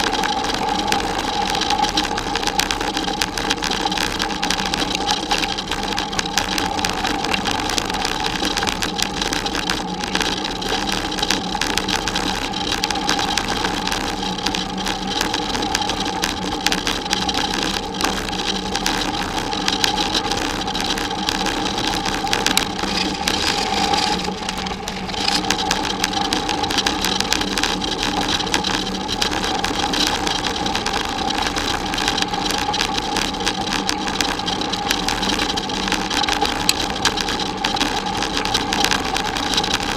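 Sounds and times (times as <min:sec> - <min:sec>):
bicycle tyres crunching on gravel: 0:00.0 - 0:39.9
steady hum: 0:00.0 - 0:39.9.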